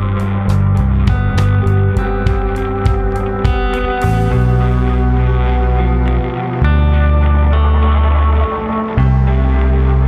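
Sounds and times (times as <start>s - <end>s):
guitar over steady beat: 0.0s - 10.0s.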